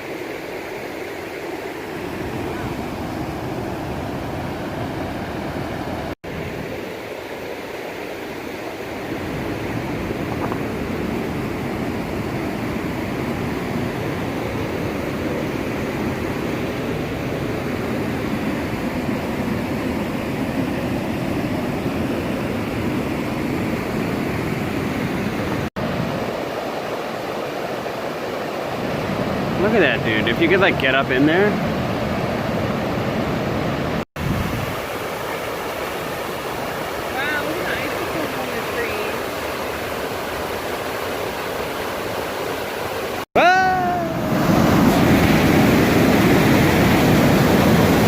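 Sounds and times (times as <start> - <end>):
stream rushing down waterfalls: 0.0 - 48.0.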